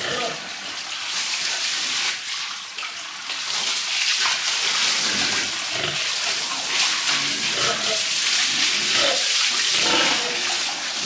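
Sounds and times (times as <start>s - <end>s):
water spraying and splashing: 0.0s - 11.0s.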